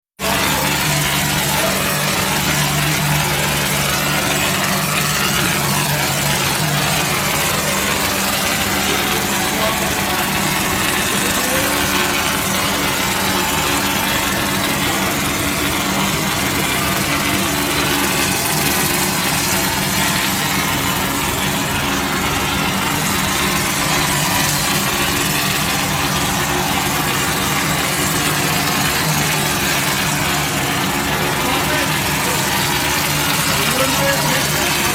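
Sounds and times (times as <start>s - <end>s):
plastering machine humming: 0.0s - 34.9s.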